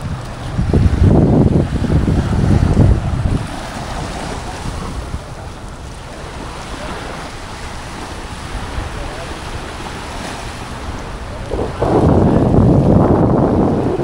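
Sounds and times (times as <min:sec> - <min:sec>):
small waves washing ashore: 0:00.0 - 0:14.0
wind buffeting microphone: 0:00.0 - 0:14.0.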